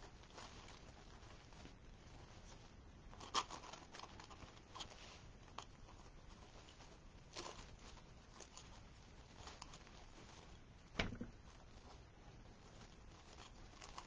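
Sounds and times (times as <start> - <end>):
ribbon rustling and crinkling: 0.0 - 14.0.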